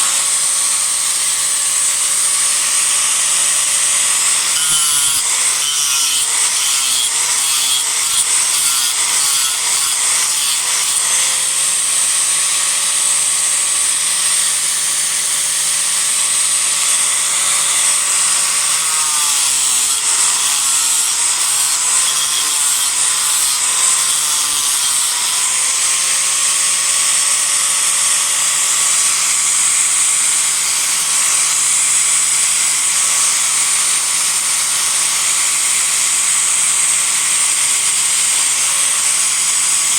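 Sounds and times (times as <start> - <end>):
disc grinder grinding wood: 0.0 - 39.8.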